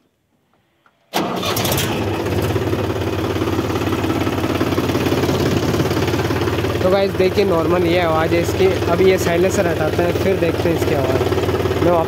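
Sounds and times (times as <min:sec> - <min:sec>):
tractor diesel engine starting: 0:01.1 - 0:12.0.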